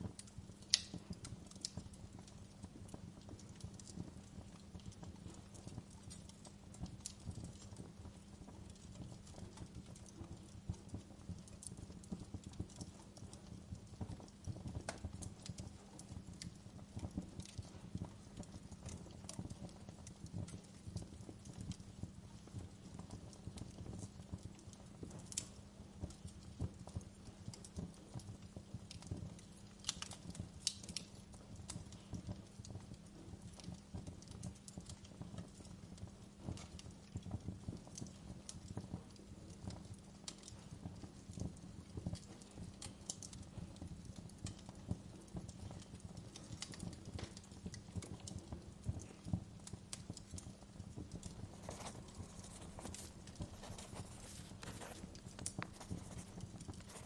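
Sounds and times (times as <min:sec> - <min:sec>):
fire crackling in a fireplace: 0:00.0 - 0:57.0.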